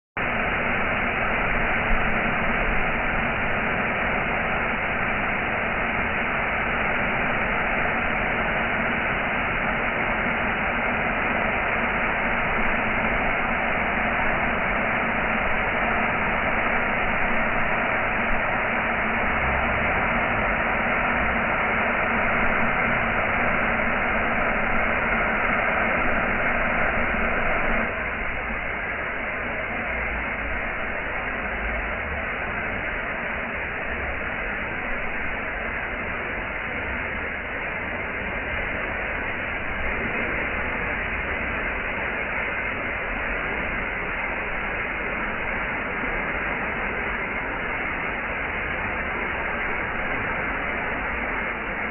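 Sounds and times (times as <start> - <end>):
waterfall: 0.2 - 51.9.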